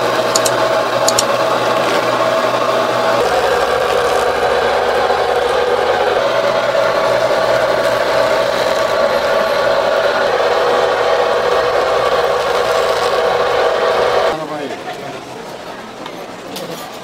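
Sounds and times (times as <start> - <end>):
fish-skinning machine humming: 0.0 - 14.5.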